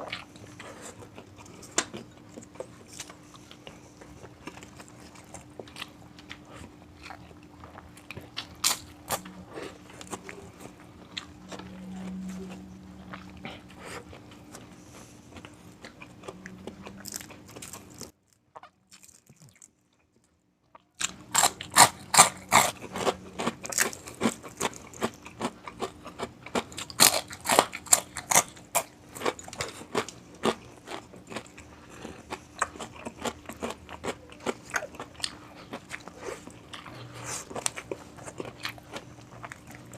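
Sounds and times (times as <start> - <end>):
crunching and chewing crispy food: 0.0 - 39.9.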